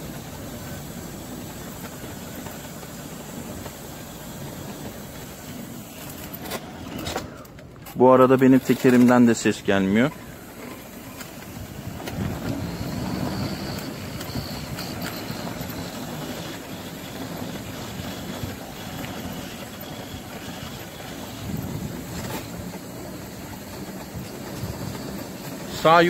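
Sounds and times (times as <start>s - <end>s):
wheelchair rumbling over paving: 0.0s - 26.0s.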